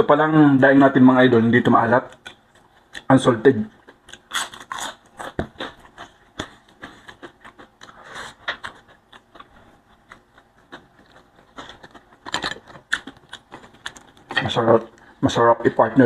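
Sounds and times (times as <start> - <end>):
person chewing food: 1.9 - 15.2
mouth clicks and smacks: 2.0 - 15.1.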